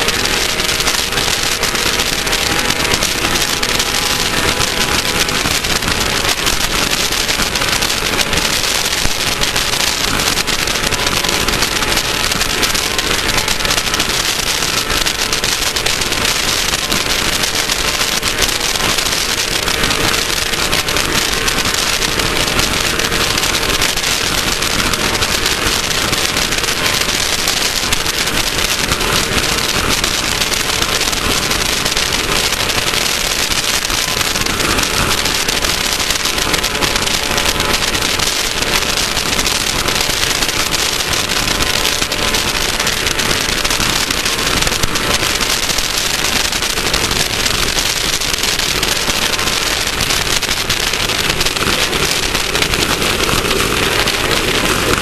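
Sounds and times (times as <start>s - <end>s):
crackling rattle: 0.0s - 55.0s
race car engine running: 0.0s - 55.0s
wind tyre and dirt noise: 0.0s - 55.0s.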